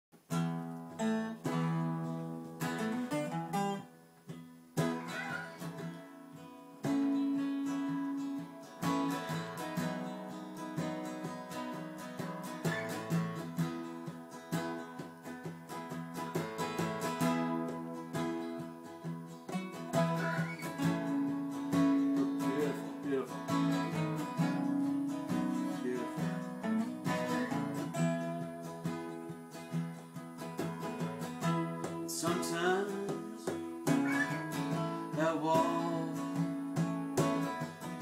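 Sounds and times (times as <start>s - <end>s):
acoustic guitars playing: 0.2s - 38.0s.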